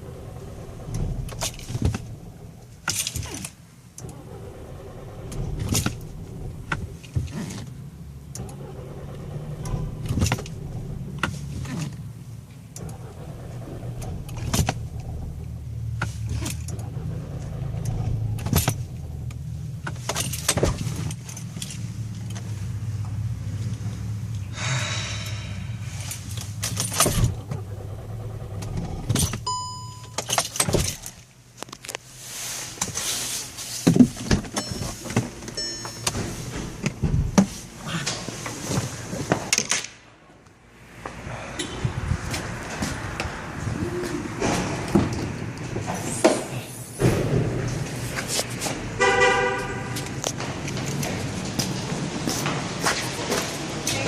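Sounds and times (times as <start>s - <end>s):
low drone from car: 0.0s - 31.2s, 40.6s - 54.0s.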